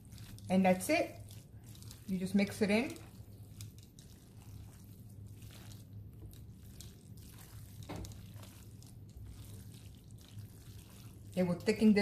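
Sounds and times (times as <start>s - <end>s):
tongs clicking and scraping: 0.0s - 11.8s
spaghetti squishing in a skillet: 0.0s - 12.0s
steady low hum: 0.0s - 12.0s.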